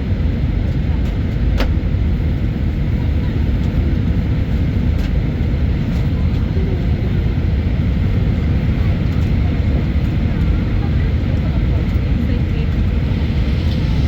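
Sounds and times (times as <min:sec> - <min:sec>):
airliner cabin engine roar: 0:00.0 - 0:14.0.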